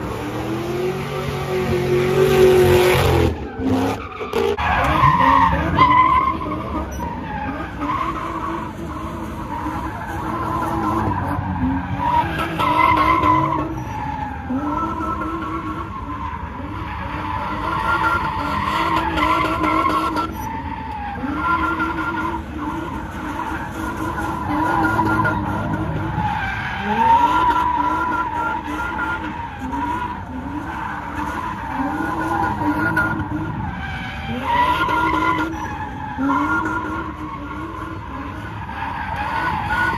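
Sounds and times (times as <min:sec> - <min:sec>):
car tyres screeching: 0:00.0 - 0:39.9
engines revving: 0:00.0 - 0:39.9.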